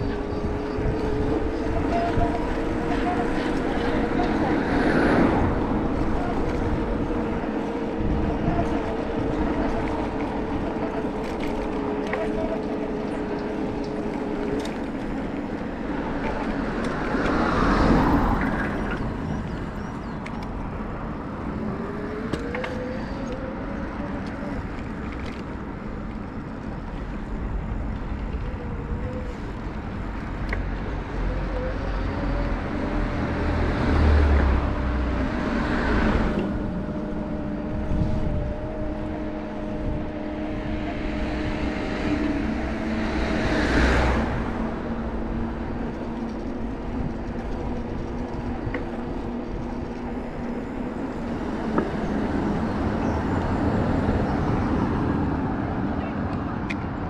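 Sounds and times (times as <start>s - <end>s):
steady engine hum: 0.0s - 57.0s
vehicles passing: 0.0s - 57.0s.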